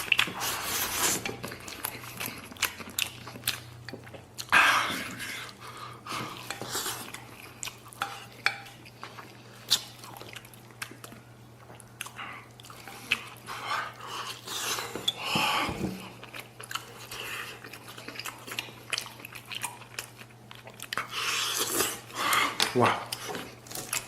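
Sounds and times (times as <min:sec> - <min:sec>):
faint steady hum: 0:00.0 - 0:24.0
person chewing on ribs: 0:00.0 - 0:24.0.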